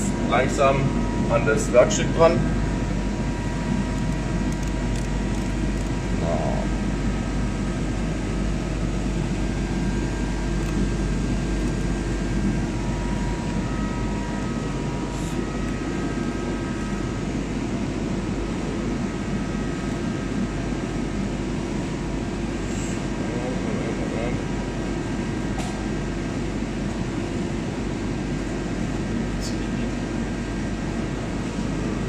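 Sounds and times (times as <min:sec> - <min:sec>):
high machine whine: 0:00.0 - 0:32.0
lathe machine drone: 0:00.0 - 0:32.0.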